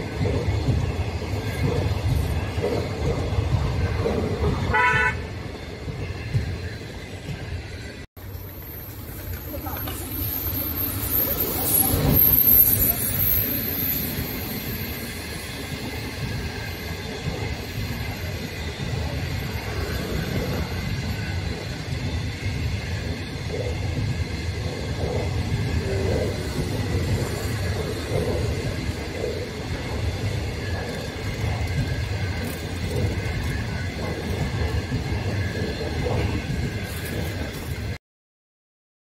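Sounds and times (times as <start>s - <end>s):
electric locomotive passing: 0.0s - 38.0s
train wheels rumbling on rails: 0.0s - 38.0s.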